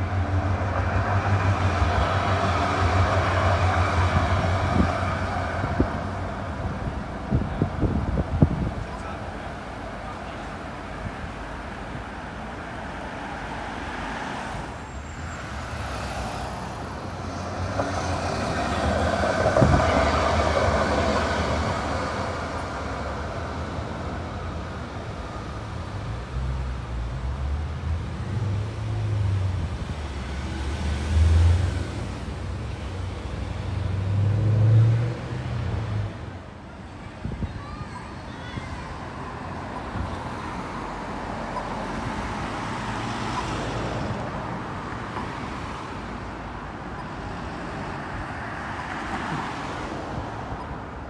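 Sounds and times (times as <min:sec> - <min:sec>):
cars passing: 0:00.0 - 0:51.0.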